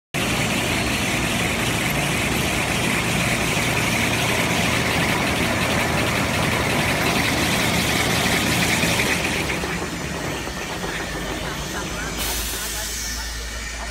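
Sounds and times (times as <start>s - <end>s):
paper rewinder machine humming: 0.2s - 12.8s.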